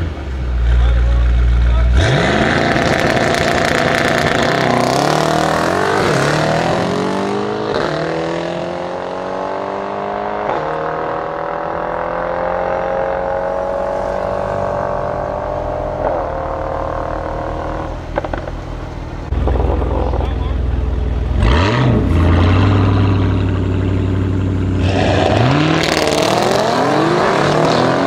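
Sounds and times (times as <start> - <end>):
car engines at full throttle: 0.0 - 28.0.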